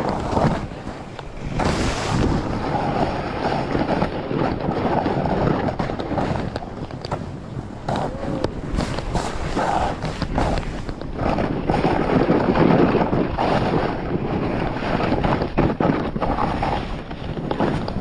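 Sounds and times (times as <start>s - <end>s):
snowboard scraping on snow: 0.0s - 18.0s
wind buffeting microphone: 0.0s - 18.0s.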